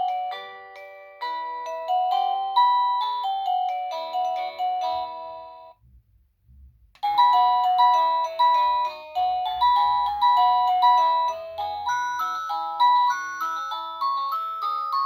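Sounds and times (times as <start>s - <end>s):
doorbell chime melody: 0.0s - 5.8s, 7.0s - 15.0s.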